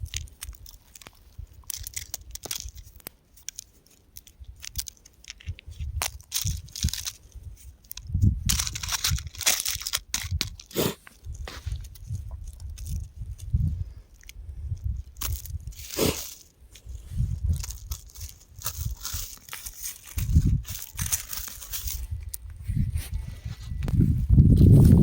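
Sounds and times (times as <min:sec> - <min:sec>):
rock and gravel crunching: 0:00.0 - 0:25.0.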